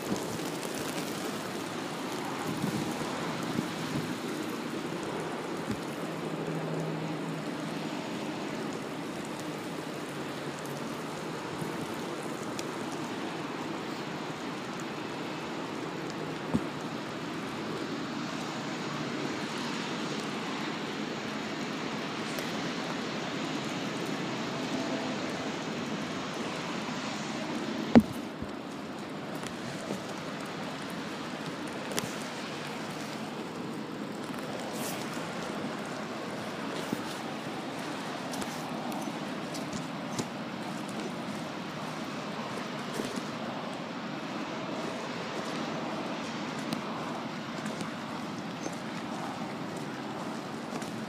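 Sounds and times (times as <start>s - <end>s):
rain hiss: 0.0s - 51.0s.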